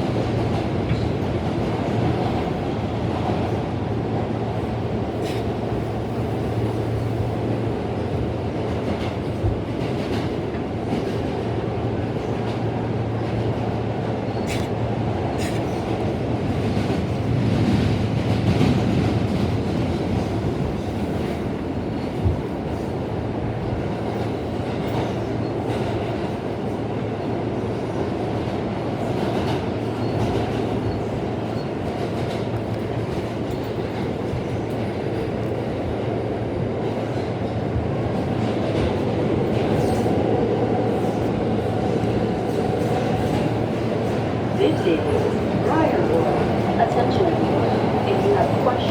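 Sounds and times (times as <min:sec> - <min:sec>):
subway train rumble: 0:00.0 - 0:48.9.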